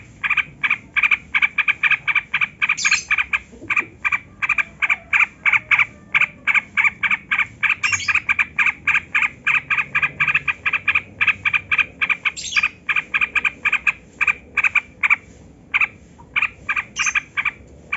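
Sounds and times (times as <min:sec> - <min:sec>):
bulbul chattering call: 0:00.0 - 0:15.2, 0:15.8 - 0:17.6
high bird chirps: 0:00.2 - 0:03.4, 0:04.0 - 0:13.9, 0:15.8 - 0:17.6.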